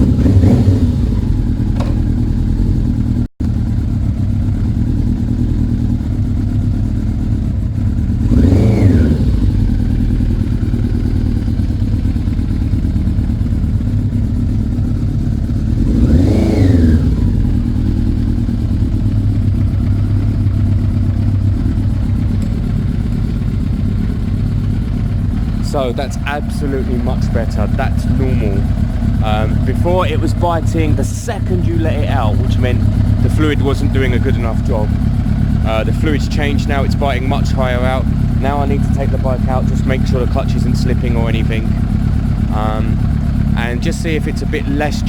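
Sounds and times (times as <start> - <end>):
engine revving: 0.0 - 3.3, 8.1 - 13.6, 15.2 - 45.0
motorcycle engine idling: 0.0 - 45.0.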